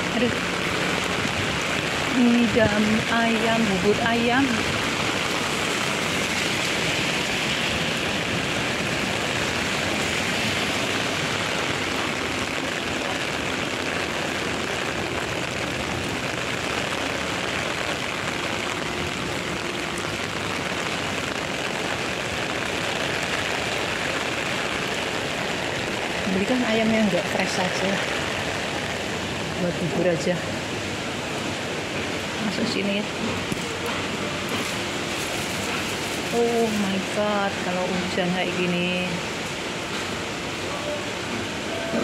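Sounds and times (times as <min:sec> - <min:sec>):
heavy rain on street: 0:00.0 - 0:42.0.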